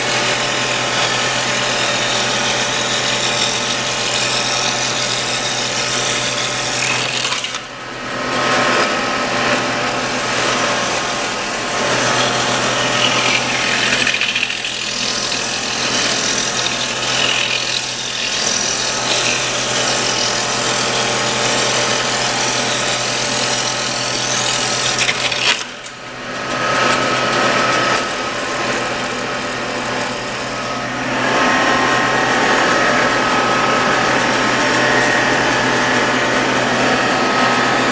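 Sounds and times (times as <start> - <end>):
cutter head shaping wooden rod: 0.0 - 37.9
steady motor hum: 0.0 - 37.9.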